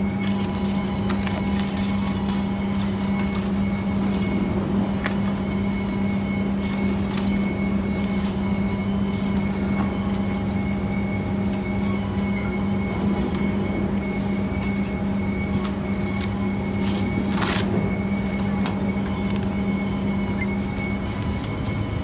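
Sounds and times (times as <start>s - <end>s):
high whine: 0.0s - 22.0s
machinery low hum: 0.0s - 22.0s.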